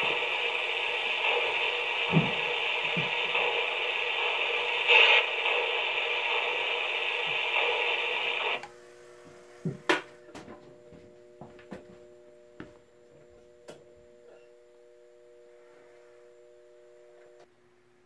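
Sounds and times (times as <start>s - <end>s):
model train electrical hum: 0.0s - 18.0s.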